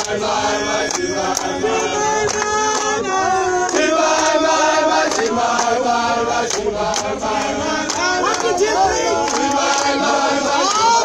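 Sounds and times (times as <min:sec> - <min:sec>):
crowd singing a chant: 0:00.0 - 0:11.0.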